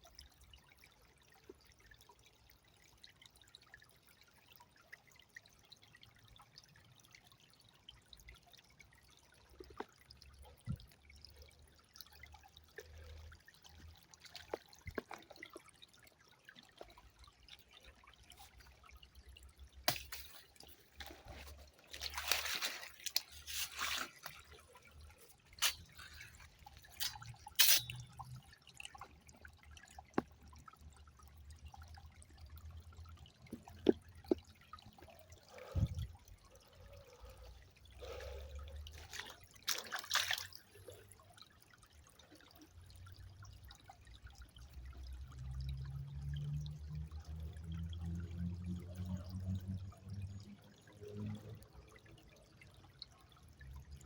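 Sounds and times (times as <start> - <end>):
river water trickling and splashing: 0.0 - 54.0.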